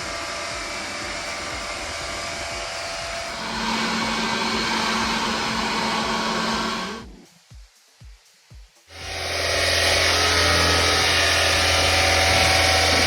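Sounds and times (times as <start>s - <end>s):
steady hum: 0.0s - 7.8s, 8.9s - 13.0s
cleaning machine rushing hiss: 0.0s - 13.0s.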